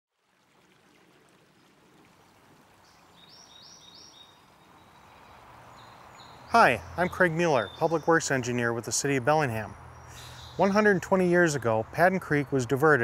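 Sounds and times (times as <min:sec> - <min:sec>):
creek running over stones: 0:00.1 - 0:13.0.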